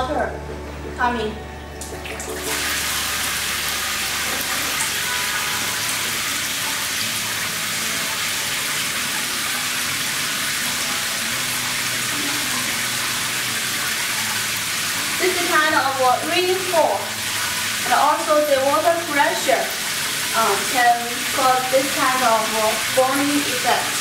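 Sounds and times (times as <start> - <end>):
shower spraying water: 1.8 - 24.0.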